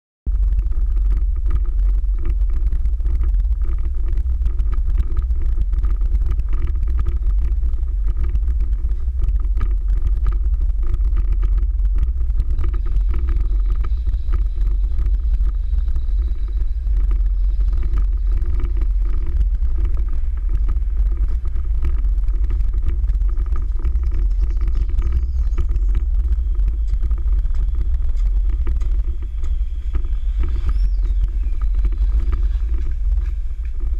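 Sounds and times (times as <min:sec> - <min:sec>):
wind and road noise: 0:00.3 - 0:33.9.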